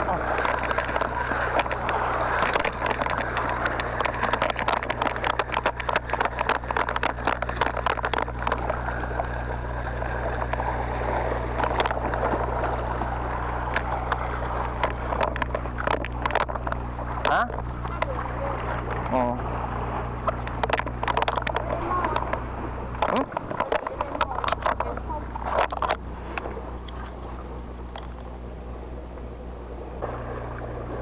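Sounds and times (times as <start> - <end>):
sea washing against rocks: 0.0 - 28.2.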